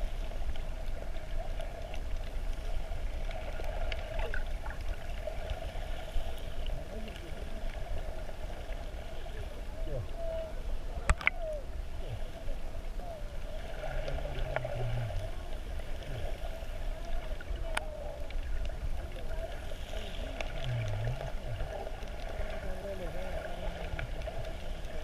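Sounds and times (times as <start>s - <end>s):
muffled underwater sloshing: 0.0s - 25.0s.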